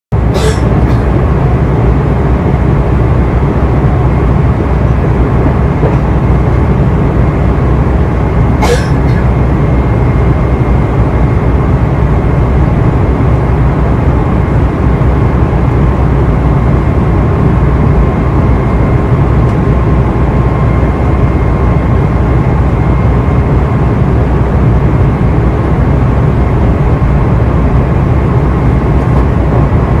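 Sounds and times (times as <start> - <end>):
train rumbling: 0.1 - 30.0
faint steady whine: 0.2 - 30.0.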